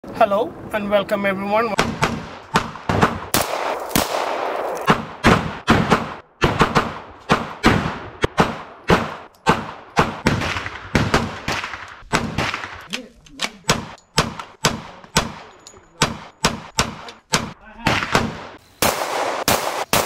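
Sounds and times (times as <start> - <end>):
gunshots with short echo: 1.8 - 12.9, 13.6 - 20.0.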